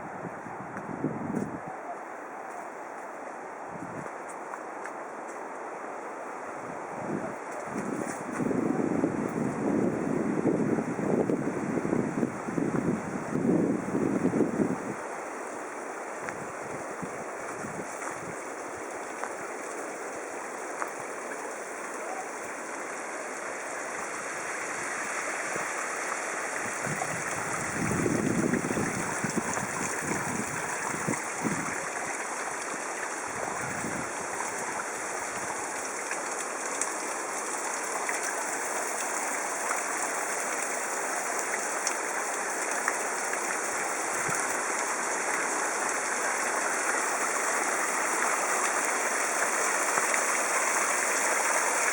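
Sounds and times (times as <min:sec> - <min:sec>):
rushing stream water: 0:00.0 - 0:51.9.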